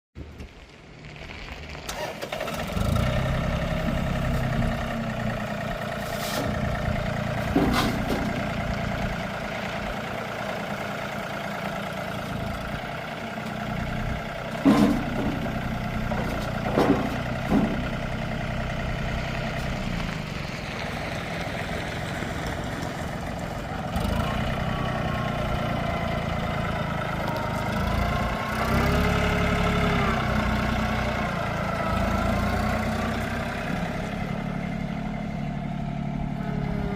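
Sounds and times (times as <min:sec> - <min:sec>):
tractor diesel engine idling: 0:00.6 - 0:36.9.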